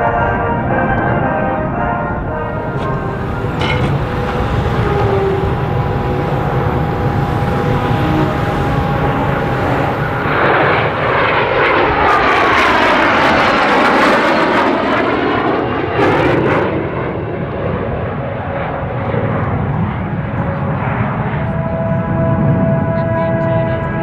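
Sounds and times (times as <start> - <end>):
jet aircraft flying past: 0.0 - 24.0.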